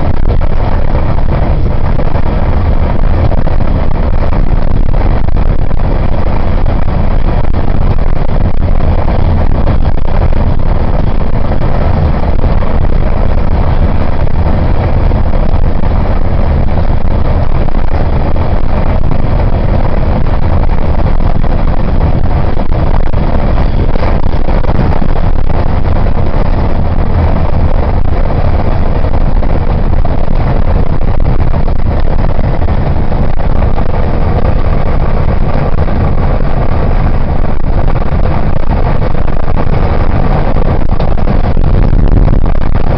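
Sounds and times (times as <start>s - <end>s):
vehicle driving rumble: 0.0s - 42.9s
wind noise: 0.0s - 42.9s.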